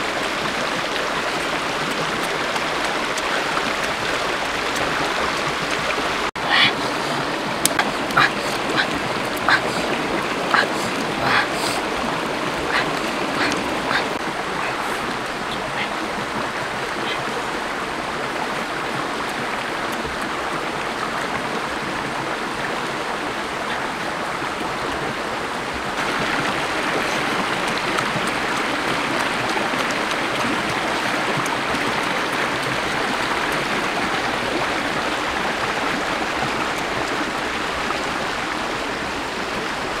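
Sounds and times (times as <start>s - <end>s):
stream running over rocks: 0.0s - 40.0s.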